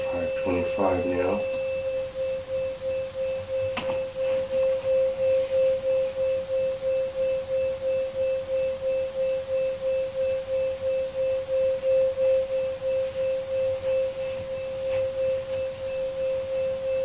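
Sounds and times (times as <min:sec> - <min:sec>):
beating sine tones: 0:00.0 - 0:17.0.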